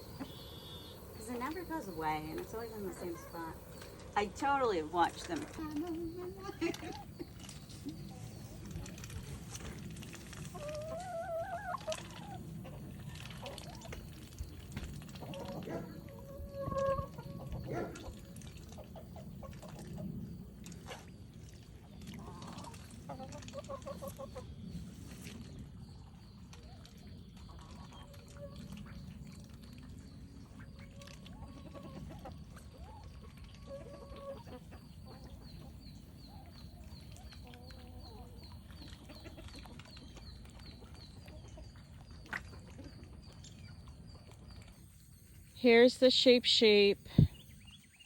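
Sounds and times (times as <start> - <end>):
chickens clucking: 0.0 - 20.5, 22.2 - 24.6, 26.1 - 29.1, 30.4 - 44.7.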